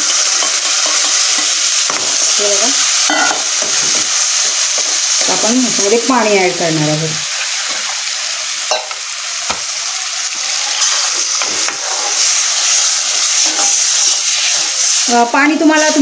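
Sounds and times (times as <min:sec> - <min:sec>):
sizzling in a hot pan: 0:00.0 - 0:16.0.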